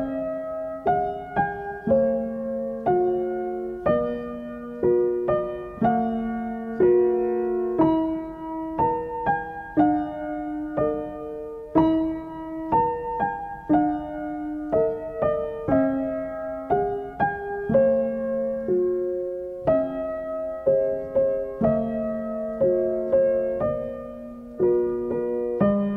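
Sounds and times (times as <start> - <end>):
slow solo piano: 0.0 - 25.9.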